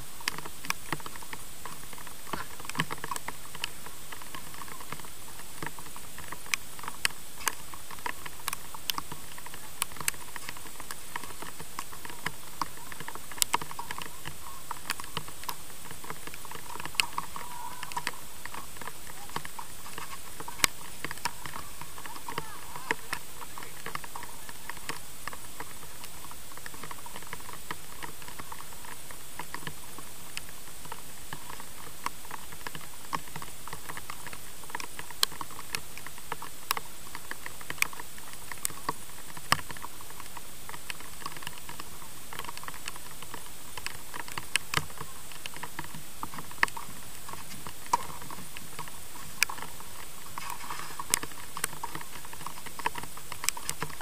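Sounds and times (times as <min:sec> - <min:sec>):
steady hiss: 0:00.0 - 0:54.0
balls bouncing on clay court: 0:00.2 - 0:54.0.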